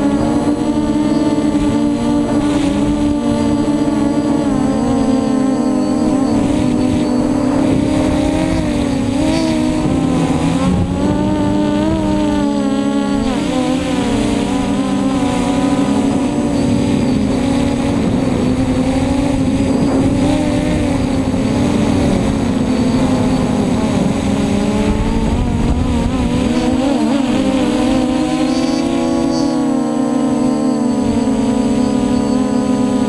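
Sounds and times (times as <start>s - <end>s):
wind rushing across microphone: 0.0s - 29.6s
quadcopter motors whining: 0.0s - 33.0s.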